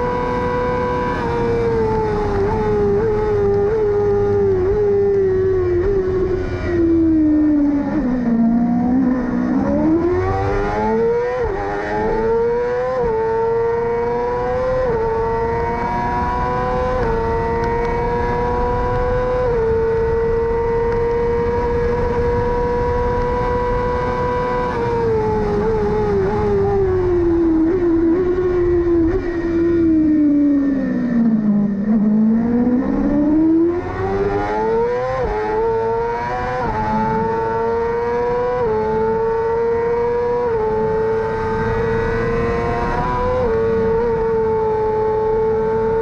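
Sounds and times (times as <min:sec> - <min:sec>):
race motorcycle engine revving: 0:00.0 - 0:46.0.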